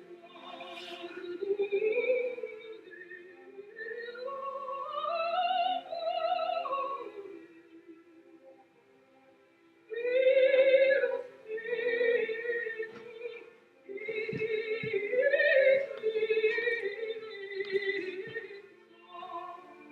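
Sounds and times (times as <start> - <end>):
operatic singing: 0.0 - 8.5, 9.8 - 19.9.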